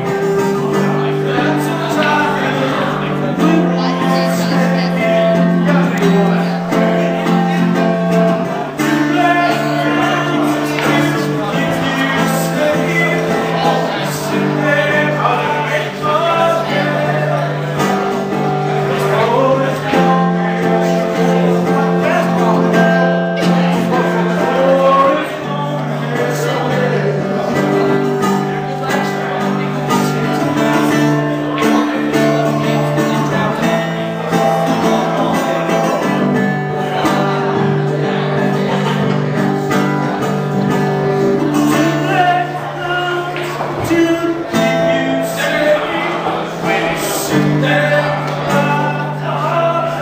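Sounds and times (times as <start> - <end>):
acoustic guitar chords: 0.0 - 50.0
man singing: 0.0 - 50.0.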